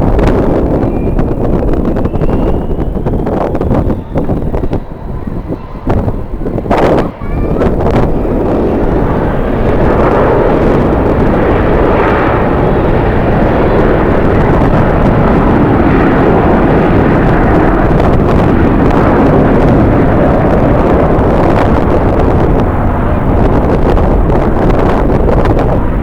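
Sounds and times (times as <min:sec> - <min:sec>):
jet airliner engine noise: 0:00.0 - 0:26.0
wind buffeting microphone: 0:00.0 - 0:26.0.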